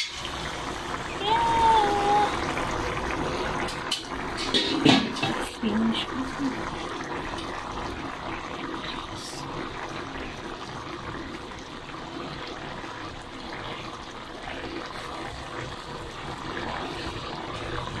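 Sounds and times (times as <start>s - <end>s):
stew bubbling in a metal pan: 0.0s - 18.0s.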